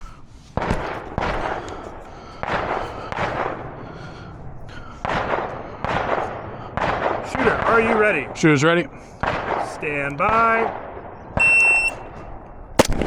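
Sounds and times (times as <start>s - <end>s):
gunshots with rolling echo: 0.5s - 13.0s.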